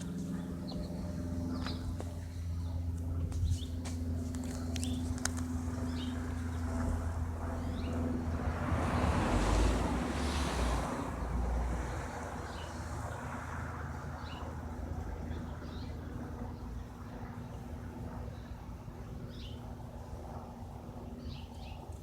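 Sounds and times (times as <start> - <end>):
light aircraft droning overhead: 0.0 - 22.0.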